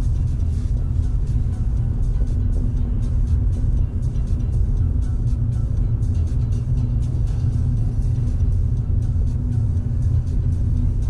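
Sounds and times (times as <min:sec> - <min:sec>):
car cabin road rumble: 0:00.0 - 0:11.0
music with regular beat: 0:00.0 - 0:11.0.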